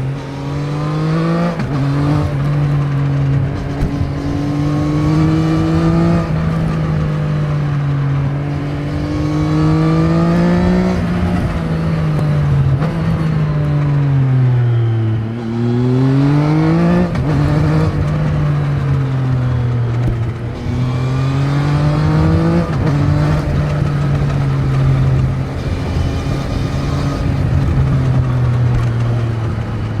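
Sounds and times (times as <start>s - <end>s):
motorcycle engine revving through gears: 0.0s - 30.0s.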